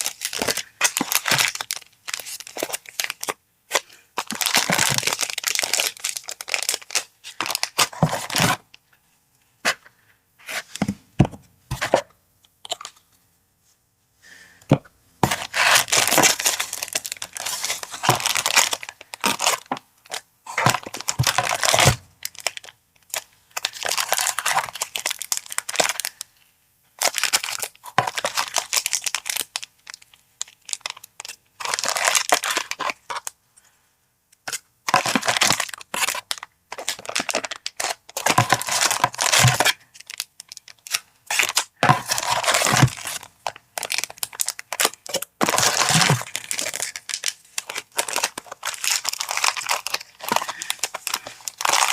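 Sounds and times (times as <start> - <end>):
paper packaging crinkling and tearing: 0.0 - 8.6, 15.2 - 26.2, 27.0 - 33.4, 34.8 - 51.9.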